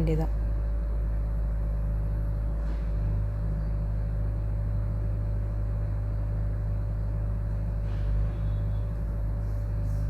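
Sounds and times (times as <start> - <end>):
faint constant tone: 0.0 - 10.0.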